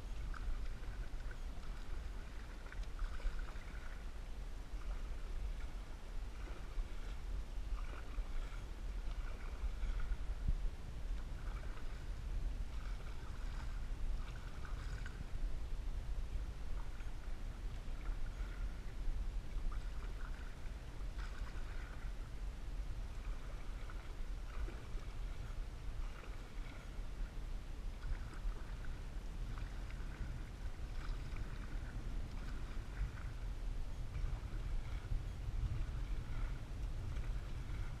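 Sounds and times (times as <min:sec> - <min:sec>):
paddle splashing in water: 0:00.0 - 0:15.6, 0:16.4 - 0:38.0
steady low rumble: 0:00.0 - 0:38.0.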